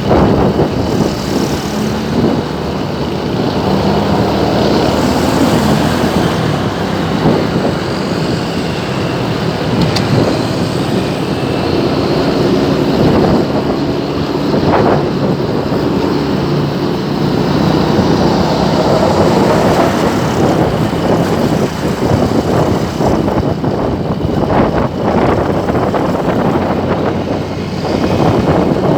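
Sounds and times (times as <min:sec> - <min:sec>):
road noise: 0:00.0 - 0:28.9
vehicle engines running: 0:00.0 - 0:28.9.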